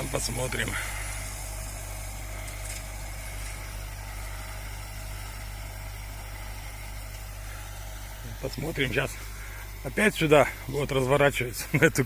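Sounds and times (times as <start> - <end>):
distant tractor engine drone: 0.0 - 12.0.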